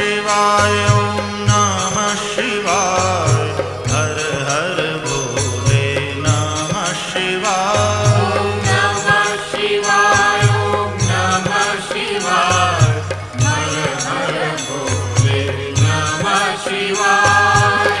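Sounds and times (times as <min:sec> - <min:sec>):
light jingling percussion: 0:00.0 - 0:18.0.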